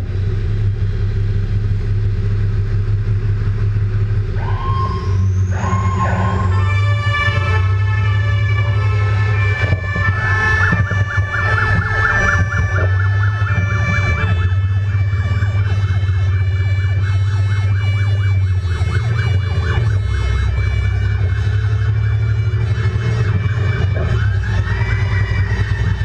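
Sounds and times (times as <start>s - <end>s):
steady low hum: 0.0s - 26.0s
high whining tones: 2.8s - 26.0s
fire engine siren yelping: 4.2s - 26.0s.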